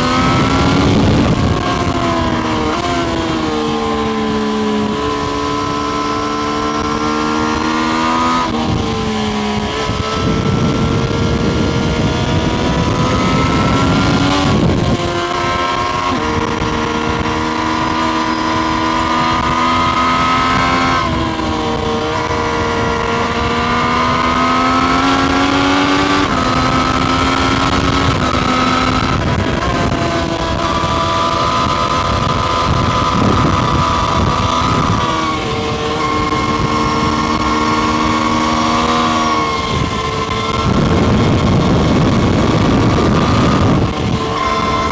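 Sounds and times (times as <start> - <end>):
motorcycle engine running: 0.0 - 44.9
wind rush: 0.0 - 44.9.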